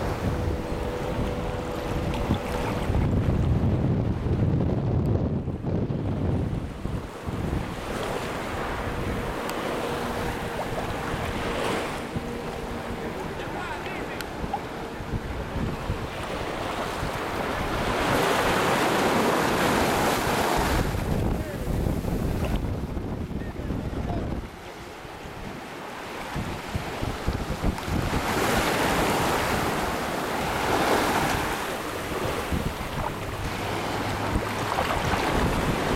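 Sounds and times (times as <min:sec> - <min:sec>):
small waves breaking: 0:00.0 - 0:03.6, 0:06.5 - 0:22.8, 0:23.6 - 0:35.9
shallow sea water washing: 0:00.0 - 0:04.4, 0:06.5 - 0:22.7, 0:24.1 - 0:35.9
wind buffeting microphone: 0:00.0 - 0:35.9.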